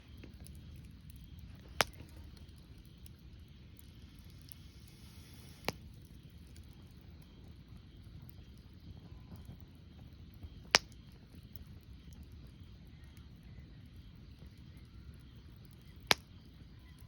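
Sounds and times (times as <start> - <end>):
campfire burning: 0.0 - 17.0
fire pops: 0.0 - 17.0
low steady background noise: 0.0 - 17.0.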